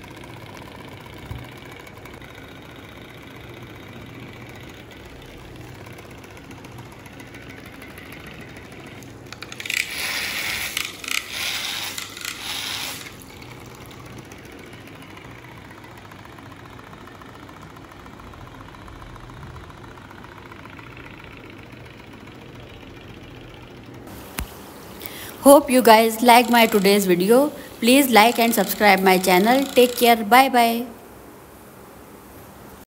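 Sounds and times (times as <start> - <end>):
small electric motor humming: 0.0 - 24.1, 25.0 - 31.0.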